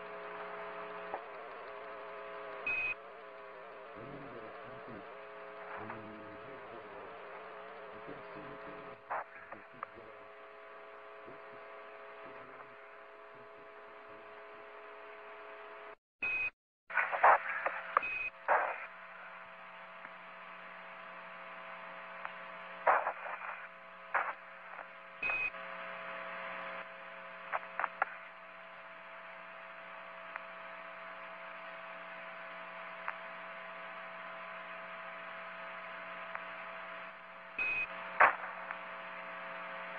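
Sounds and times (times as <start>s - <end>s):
radio crackles: 0.0s - 39.9s
radio hum of held tones: 0.0s - 39.9s.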